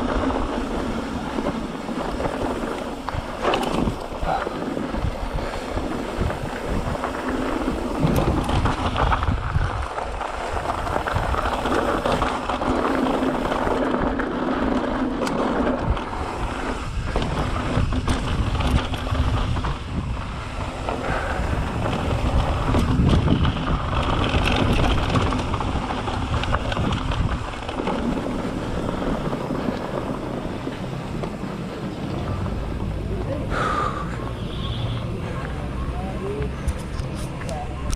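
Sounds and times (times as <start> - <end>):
bike rattling and knocking: 0.0 - 33.9
tyres rolling on dirt and gravel: 0.0 - 37.9
wind buffeting microphone: 0.0 - 37.9.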